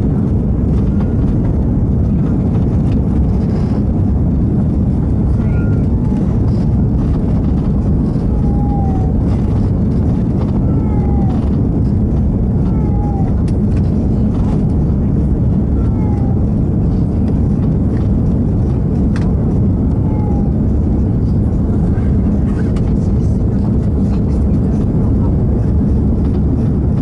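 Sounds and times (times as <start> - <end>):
airplane cabin rumble: 0.0 - 27.0.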